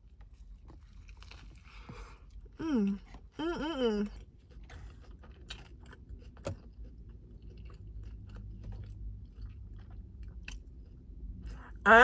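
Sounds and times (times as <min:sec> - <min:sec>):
person chewing crispy food: 0:00.0 - 0:11.8.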